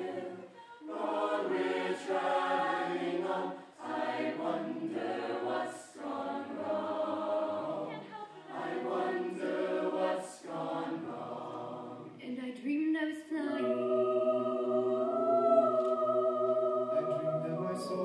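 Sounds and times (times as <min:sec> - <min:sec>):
a cappella choir singing: 0:00.0 - 0:12.3, 0:13.3 - 0:18.0.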